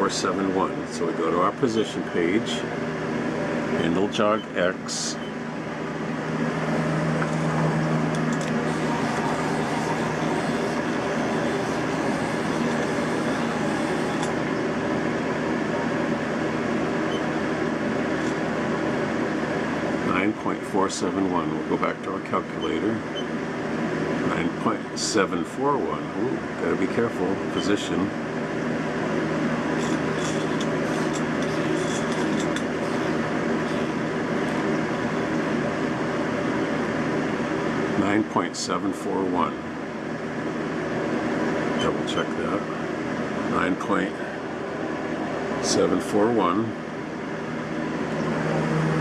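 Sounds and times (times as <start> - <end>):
machine rumbling hum: 0.0 - 38.2, 39.3 - 49.0.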